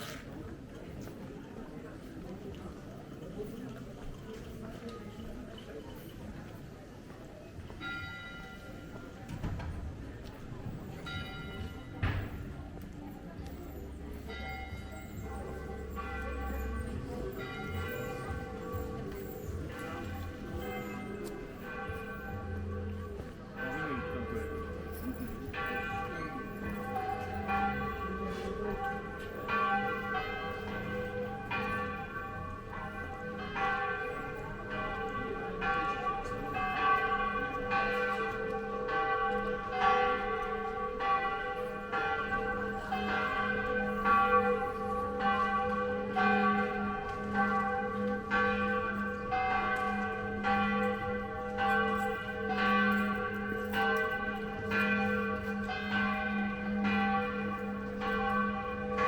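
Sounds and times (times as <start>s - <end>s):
church bells ringing: 7.6s - 59.0s.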